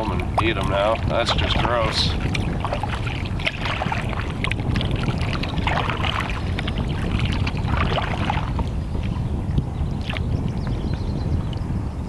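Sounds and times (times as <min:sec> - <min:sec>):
water splashing around canoe: 0:00.0 - 0:11.6
wind rumble on microphone: 0:00.0 - 0:12.0.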